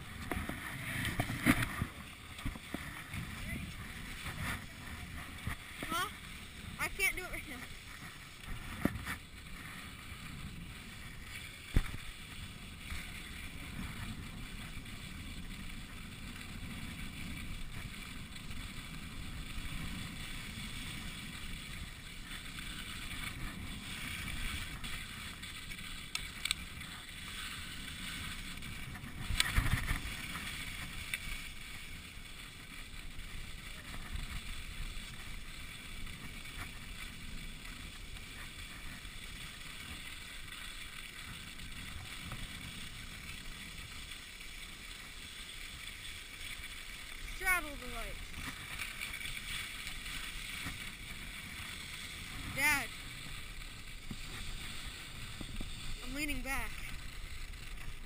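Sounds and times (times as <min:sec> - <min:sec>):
skis sliding over snow: 0:00.0 - 0:58.0.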